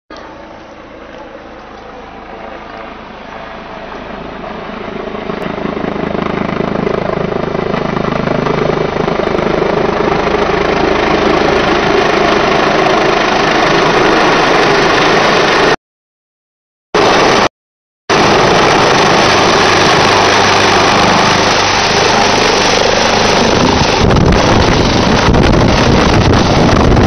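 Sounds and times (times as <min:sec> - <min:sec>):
helicopter rotor and turbine: 0:00.1 - 0:15.8, 0:17.0 - 0:17.5, 0:18.1 - 0:27.0.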